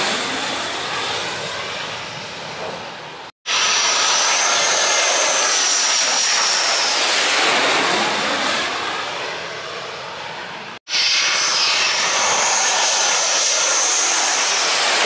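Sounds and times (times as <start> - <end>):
jet engine roar passing overhead: 0.0 - 15.0.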